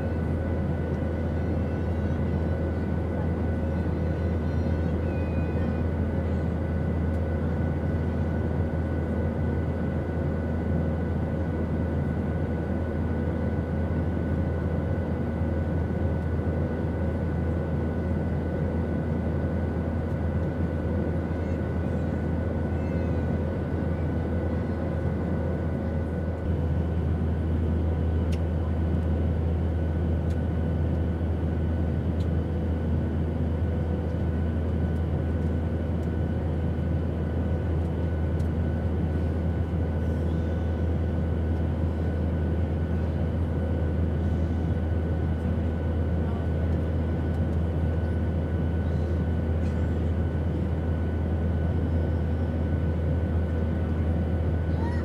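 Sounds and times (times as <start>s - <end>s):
airplane drone: 0.0s - 55.0s.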